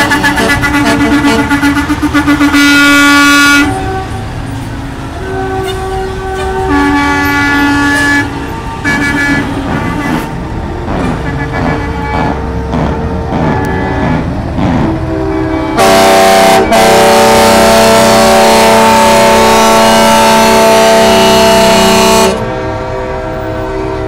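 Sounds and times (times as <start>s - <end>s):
diesel truck engines rumbling: 0.0s - 24.0s
truck air horn blasts: 0.0s - 24.0s.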